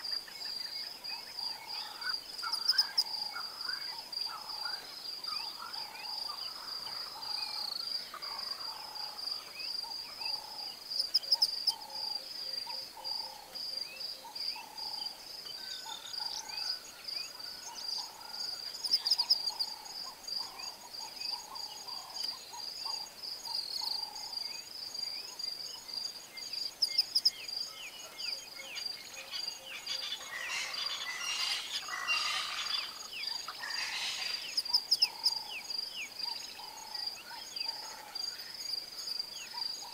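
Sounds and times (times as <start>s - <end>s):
shrill pulsing insect trill: 0.0s - 39.9s.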